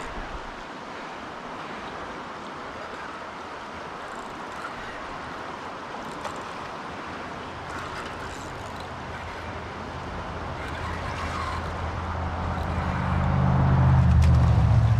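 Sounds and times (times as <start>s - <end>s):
river rushing over rocks: 0.0s - 14.4s.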